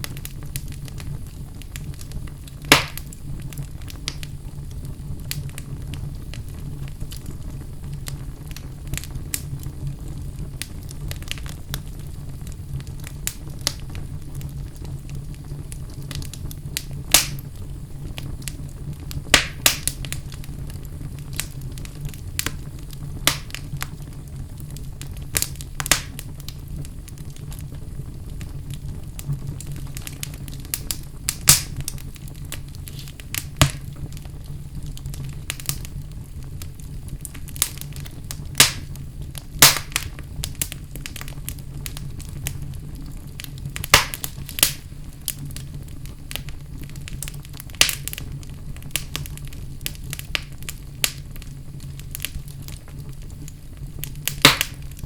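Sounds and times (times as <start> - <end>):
fire crackling and popping: 0.0 - 55.0
fire rumbling in fireplace: 0.0 - 55.0.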